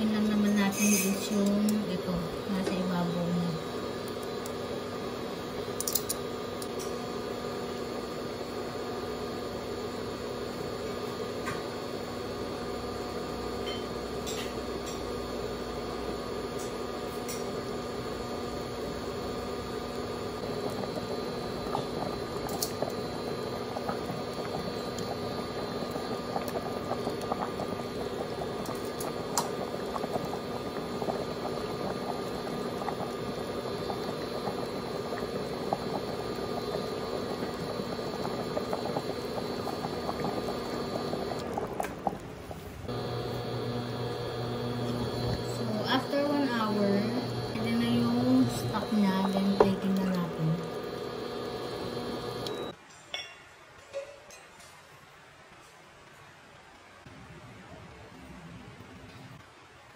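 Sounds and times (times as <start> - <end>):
soup bubbling in a pot: 0.0 - 52.8
steady electric hum: 0.0 - 52.8.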